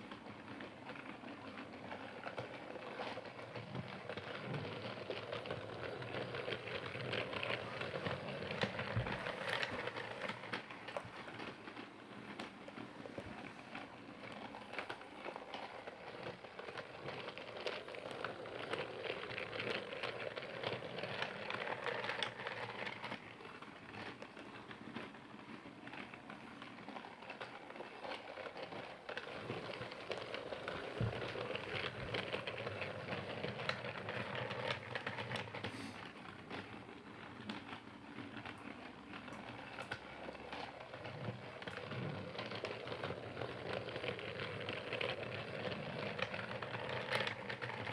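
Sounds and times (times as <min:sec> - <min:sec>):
toy train clattering and whirring: 0:00.0 - 0:47.9.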